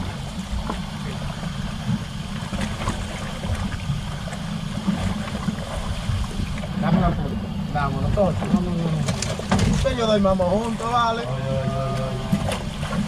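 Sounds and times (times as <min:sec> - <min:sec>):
boat motor rumbling: 0:00.0 - 0:13.0
water splashing along hull: 0:00.0 - 0:13.0.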